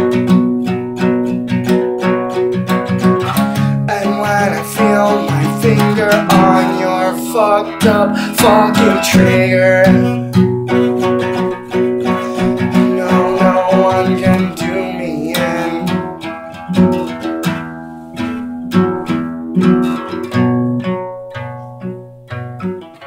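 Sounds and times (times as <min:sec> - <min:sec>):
acoustic guitar chords ringing: 0:00.0 - 0:23.0
acoustic guitar strumming: 0:00.0 - 0:23.0.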